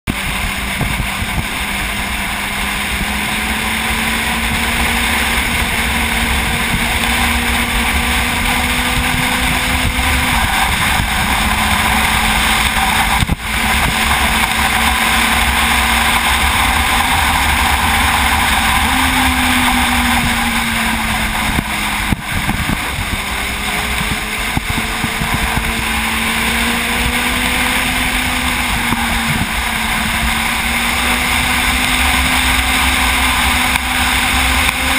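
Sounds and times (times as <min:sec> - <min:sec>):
motorcycle engine running: 0:00.0 - 0:34.9
wind noise on microphone: 0:00.1 - 0:34.9.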